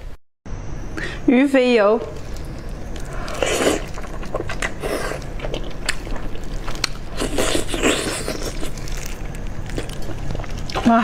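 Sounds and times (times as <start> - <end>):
eating and mouth smacks: 2.1 - 11.0.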